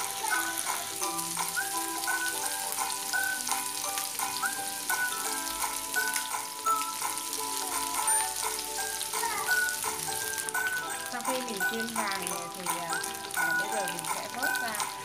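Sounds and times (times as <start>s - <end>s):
background music with melody: 0.0s - 15.0s
chicken frying in hot oil: 0.0s - 15.0s.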